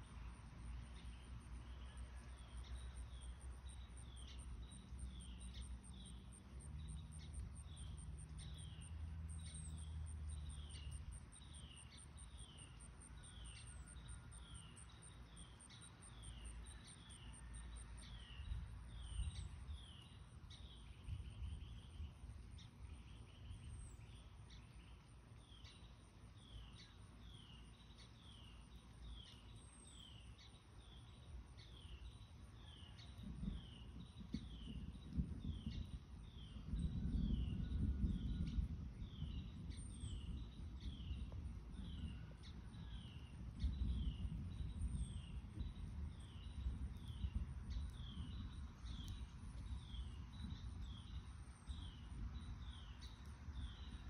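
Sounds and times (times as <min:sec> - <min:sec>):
low rumble of wind or thunder: 0:00.0 - 0:54.0.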